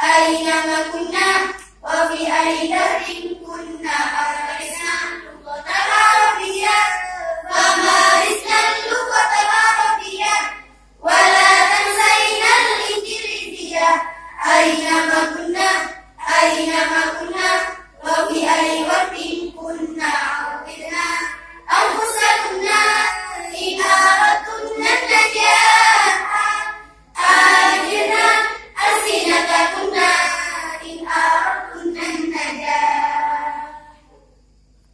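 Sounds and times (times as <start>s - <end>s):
girls singing: 0.0s - 34.2s.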